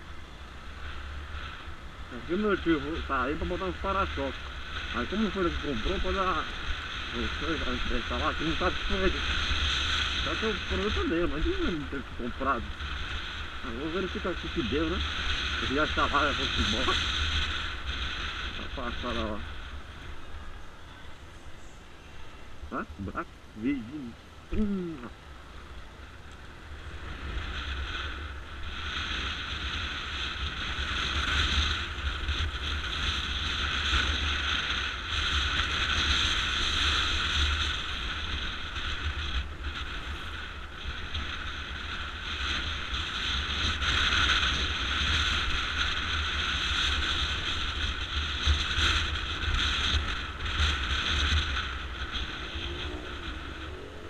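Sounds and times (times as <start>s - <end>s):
motorcycle engine running: 0.0s - 54.0s
road noise: 0.0s - 54.0s
wind rumbling on microphone: 0.0s - 54.0s.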